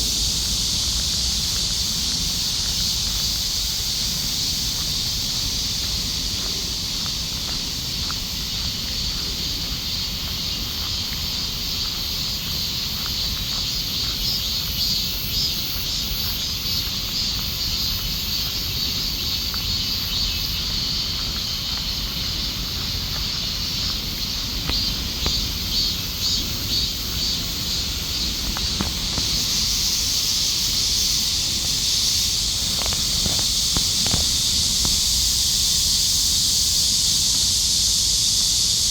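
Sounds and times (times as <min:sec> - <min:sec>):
cicadas droning: 0:00.0 - 0:38.9.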